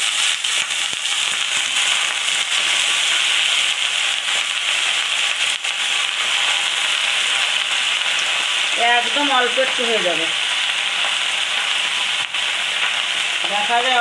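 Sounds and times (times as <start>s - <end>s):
hot oil sizzling: 0.0s - 14.0s
oil crackling pops: 0.0s - 14.0s.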